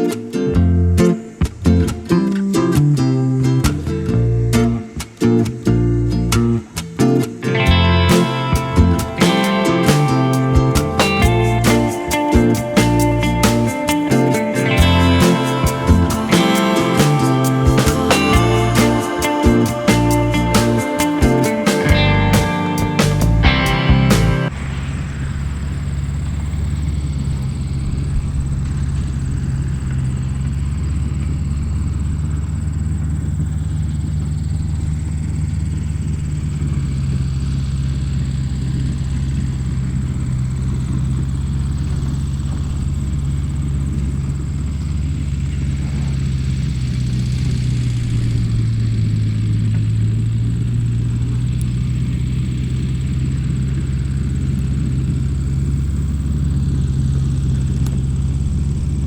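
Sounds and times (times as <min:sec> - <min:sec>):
small tractor motor humming: 0:07.4 - 0:59.0
faint high whine: 0:07.6 - 0:59.0.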